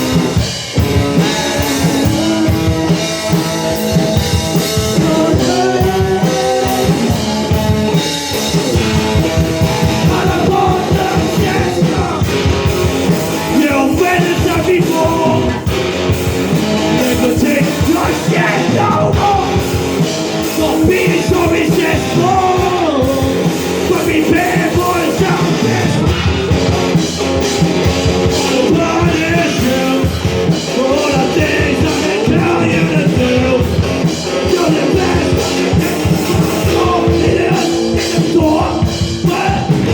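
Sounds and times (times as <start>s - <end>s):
person singing: 0.0s - 3.0s, 4.5s - 7.4s, 9.6s - 15.7s, 17.0s - 26.3s, 28.2s - 39.9s
punk rock band playing live: 0.0s - 39.9s.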